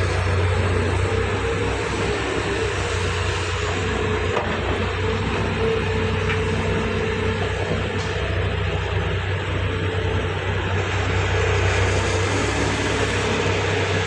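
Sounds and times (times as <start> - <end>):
diesel excavator engine droning: 0.0 - 14.0.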